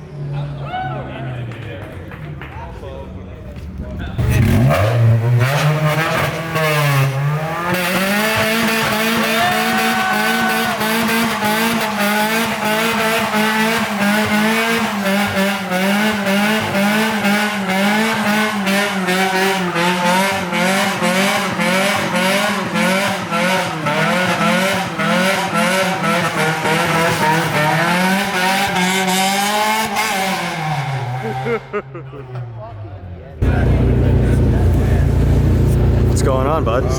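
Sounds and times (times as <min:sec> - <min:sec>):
car engine revving: 0:04.0 - 0:31.9, 0:32.9 - 0:36.9.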